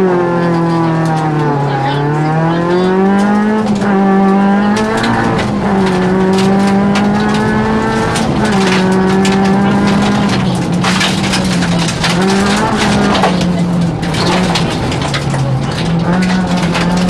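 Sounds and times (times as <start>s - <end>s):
rally car engine at high revs: 0.0s - 17.0s
sharp clicks and knocks: 1.0s - 17.0s.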